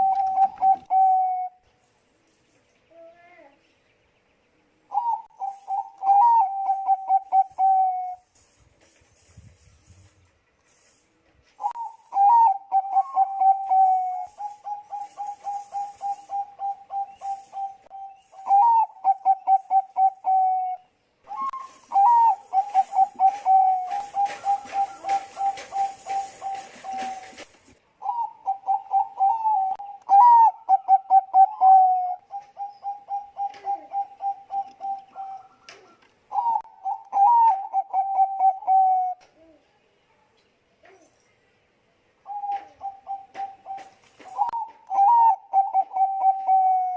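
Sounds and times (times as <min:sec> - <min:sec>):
dove cooing: 0:00.0 - 0:01.6, 0:04.9 - 0:08.2, 0:11.6 - 0:39.7, 0:42.2 - 0:46.9.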